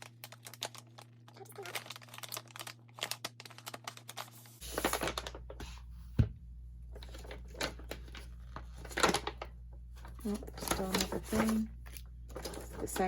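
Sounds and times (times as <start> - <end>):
plastic packaging crinkling: 0.0 - 5.6, 6.9 - 13.0.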